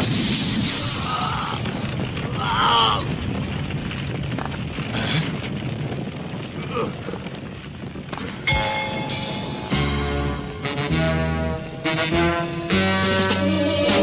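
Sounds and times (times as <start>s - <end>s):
wind-like rumble: 0.0s - 14.0s.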